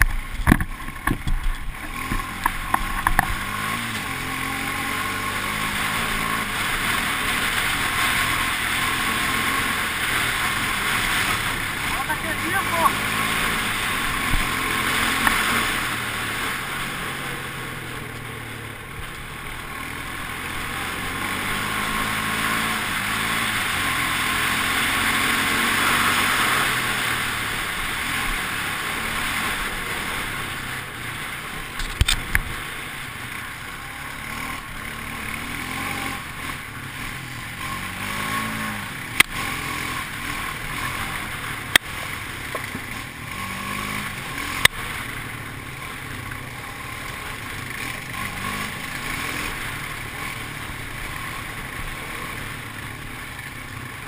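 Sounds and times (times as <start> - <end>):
steady rushing noise: 0.0 - 54.0
vehicle engine running: 0.0 - 54.0.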